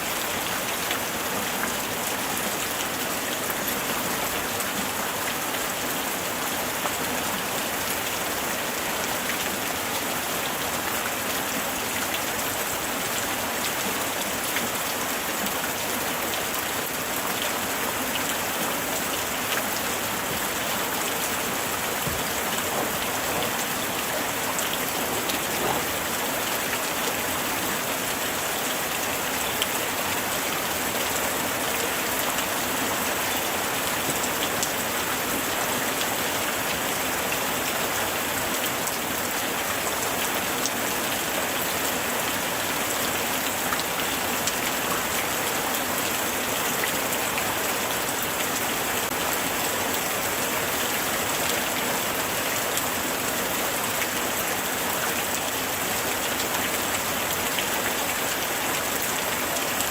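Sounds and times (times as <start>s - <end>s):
light rain falling: 0.0s - 59.9s
raindrops ticking on surfaces: 0.1s - 59.9s.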